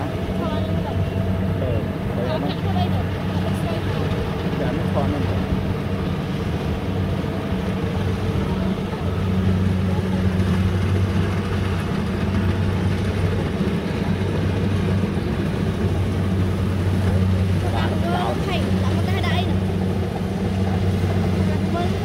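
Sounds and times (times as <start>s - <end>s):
combine harvester diesel engine: 0.0s - 22.0s.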